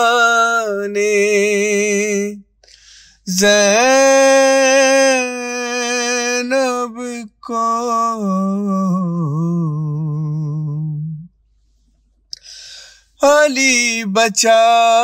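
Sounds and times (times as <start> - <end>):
man singing a lament: 0.0 - 2.4, 3.2 - 11.3, 13.2 - 15.0.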